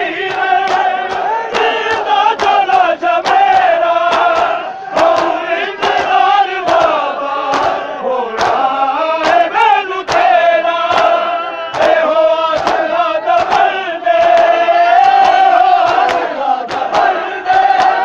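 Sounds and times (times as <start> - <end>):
crowd of men chanting: 0.0 - 18.0
hands slapping chests: 0.2 - 18.0.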